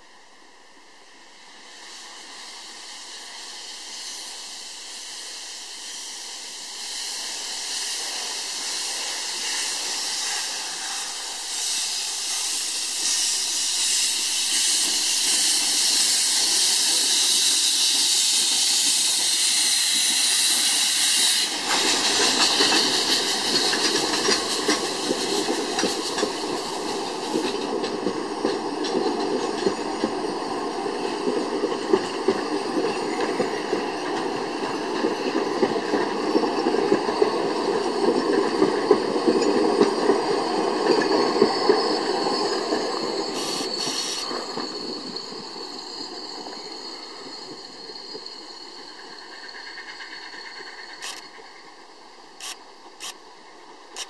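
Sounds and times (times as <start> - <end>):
steam hissing: 1.0 - 54.0
train wheels clattering on rails: 6.2 - 54.0.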